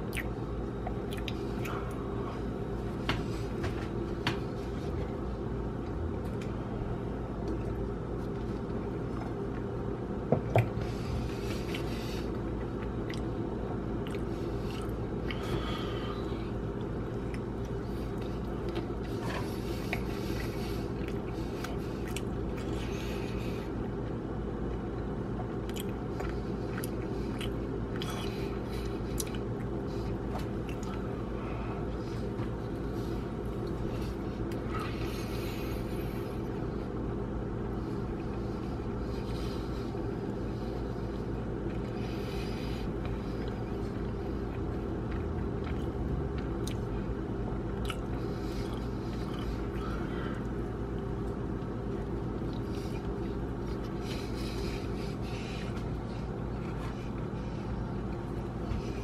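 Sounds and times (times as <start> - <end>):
person chewing crunchy food: 0.0 - 6.6, 10.6 - 37.0, 41.1 - 59.0
low hum: 0.0 - 59.0.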